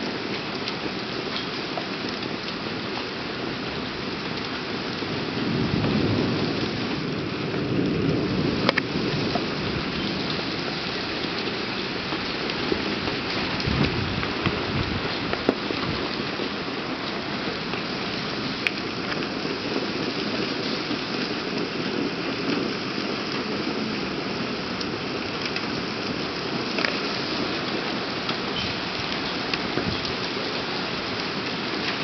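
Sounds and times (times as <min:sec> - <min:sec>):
heavy rain on paving and cars: 0:00.0 - 0:32.0
thunder rumble: 0:03.6 - 0:32.0.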